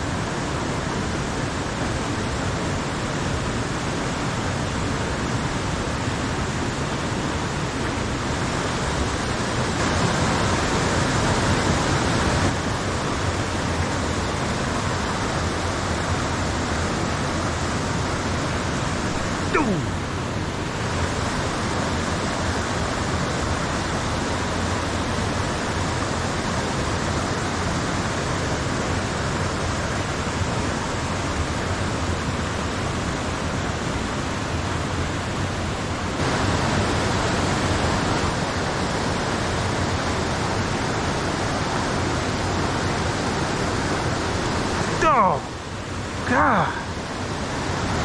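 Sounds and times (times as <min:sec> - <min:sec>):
creek rushing over boulders: 0:00.0 - 0:48.0.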